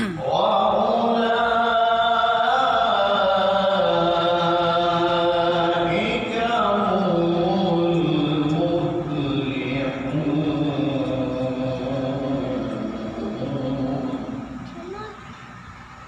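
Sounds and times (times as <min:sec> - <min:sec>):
man chanting into microphone: 0:00.0 - 0:14.4.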